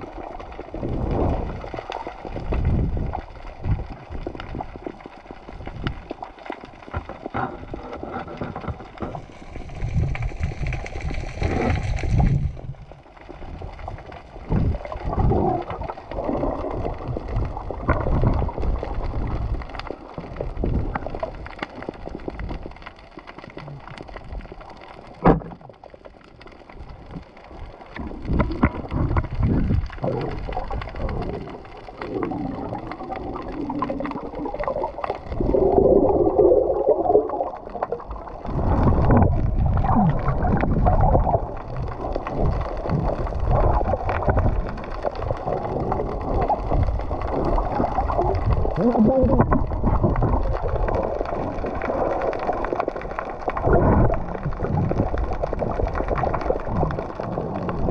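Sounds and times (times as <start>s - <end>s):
underwater sloshing and bubbling: 0.0s - 57.9s.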